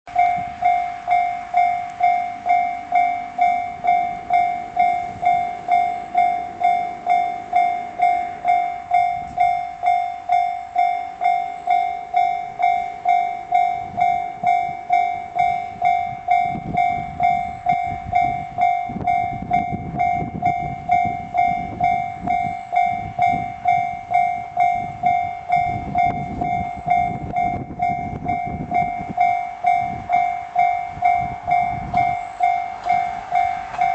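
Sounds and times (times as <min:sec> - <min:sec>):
crossing alarm bell ringing: 0:00.1 - 0:33.9
train rumbling: 0:00.1 - 0:33.9.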